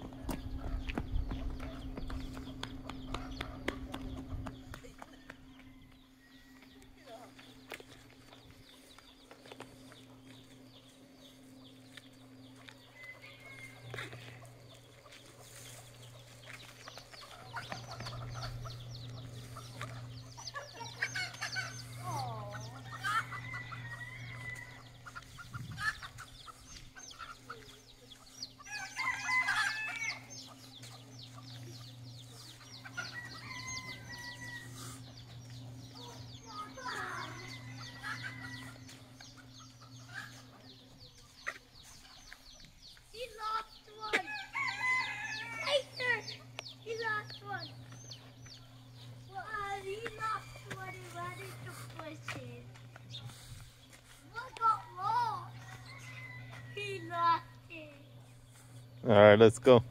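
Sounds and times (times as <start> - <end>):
chickens clucking and squawking: 0.0 - 59.3
steady low hum: 0.0 - 59.9.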